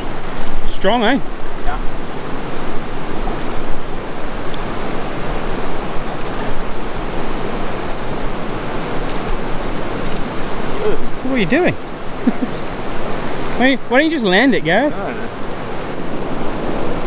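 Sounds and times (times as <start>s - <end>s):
river rushing over white water: 0.0s - 17.0s.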